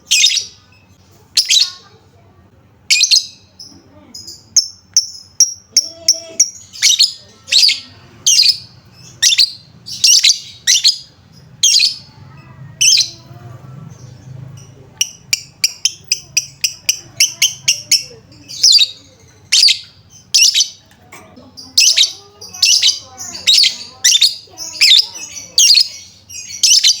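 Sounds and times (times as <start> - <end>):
bird shrill chirps: 2.9 - 13.2, 14.1 - 20.8, 21.6 - 27.0.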